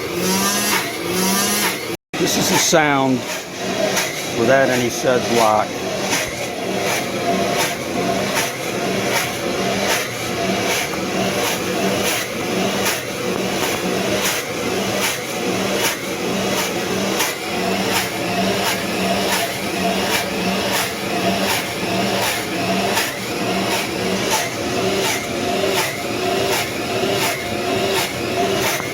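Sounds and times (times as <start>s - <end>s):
washing machine motor pumping: 0.0s - 28.9s.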